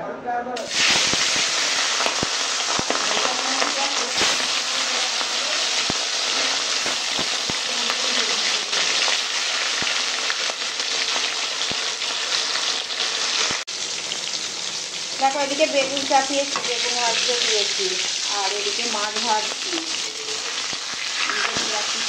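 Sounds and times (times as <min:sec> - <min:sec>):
fish frying in hot oil: 0:00.7 - 0:22.0.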